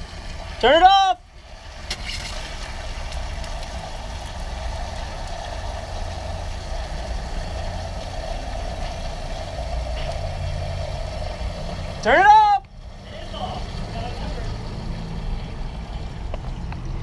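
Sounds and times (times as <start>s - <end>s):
pressurised water rushing: 0.0s - 16.3s
low rumble: 1.2s - 17.0s.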